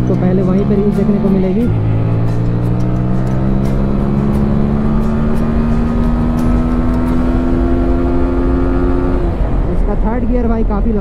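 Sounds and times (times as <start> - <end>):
motorcycle engine accelerating: 0.0 - 10.2
low wind rumble: 0.0 - 11.0.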